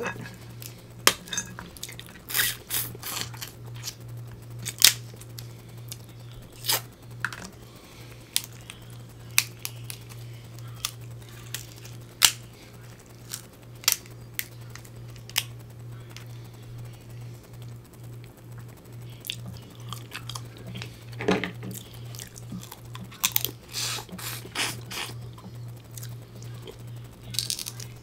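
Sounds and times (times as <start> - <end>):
crab shells cracking: 0.0 - 16.3, 17.7 - 28.0
steady low hum: 0.0 - 28.0.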